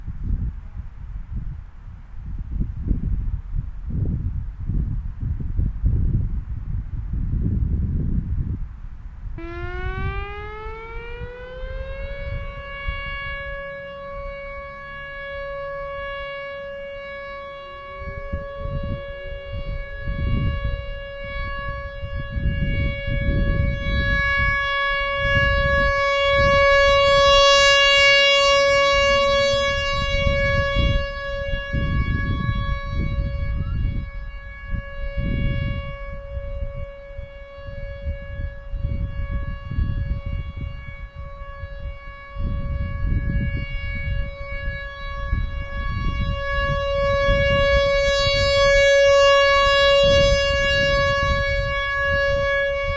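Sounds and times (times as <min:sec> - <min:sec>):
rotating warning siren: 0:00.0 - 0:52.9.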